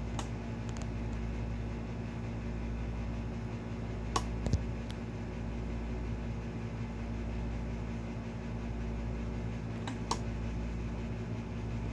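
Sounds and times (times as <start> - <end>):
machine hum with hiss: 0.0 - 11.9.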